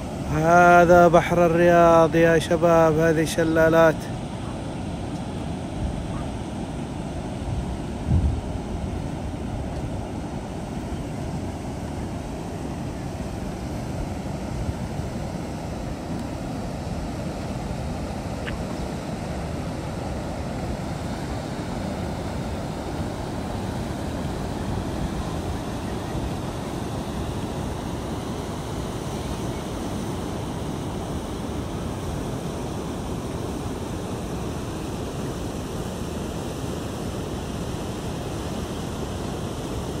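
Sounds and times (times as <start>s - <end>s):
water rushing over a weir: 0.0s - 40.0s.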